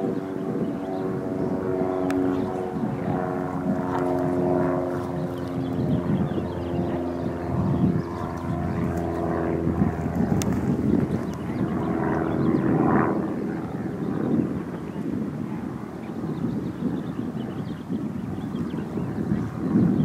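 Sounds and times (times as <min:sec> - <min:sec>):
engine drone: 0:00.0 - 0:20.0
wind noise: 0:00.0 - 0:20.0.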